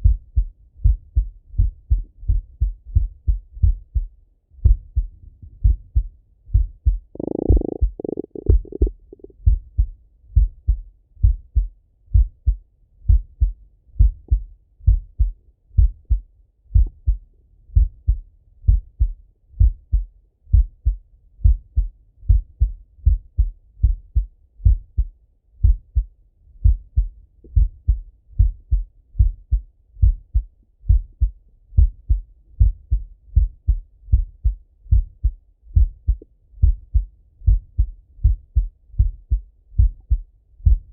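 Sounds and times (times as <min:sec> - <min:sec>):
heartbeat lub-dub thumps: 0:00.0 - 0:40.9.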